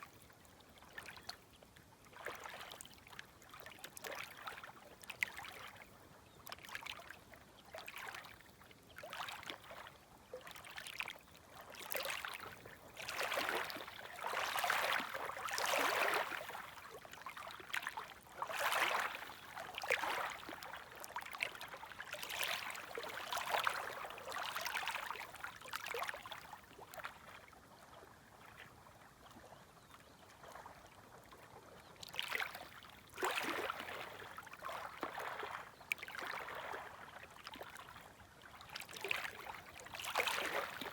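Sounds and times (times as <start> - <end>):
small waves lapping at shore: 0.0 - 40.9.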